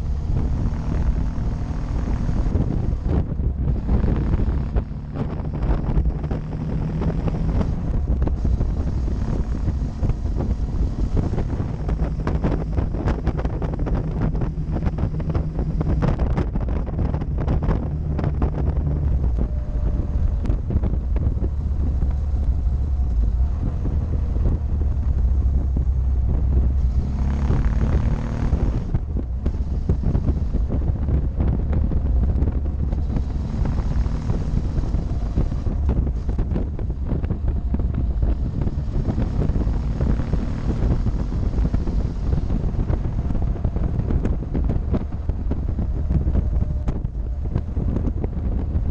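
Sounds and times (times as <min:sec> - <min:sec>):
motorcycle engine drone: 0:00.0 - 0:48.9
wind buffeting microphone: 0:00.0 - 0:48.9.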